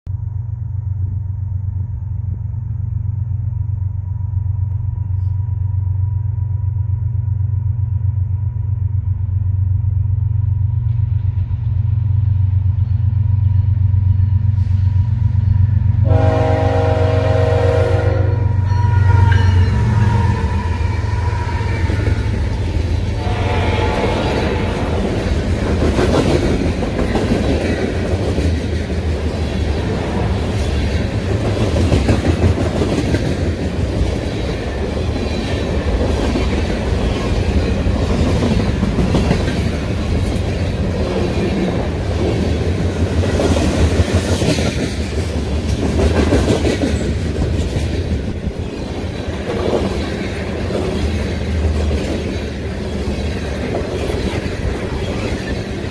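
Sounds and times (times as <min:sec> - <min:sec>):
train wheels rumbling on rail: 0:00.2 - 0:55.9.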